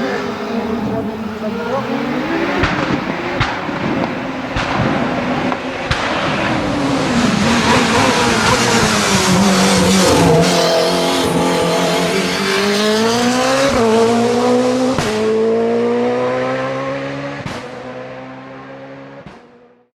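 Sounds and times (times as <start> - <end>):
race car engine accelerating: 0.0 - 19.9.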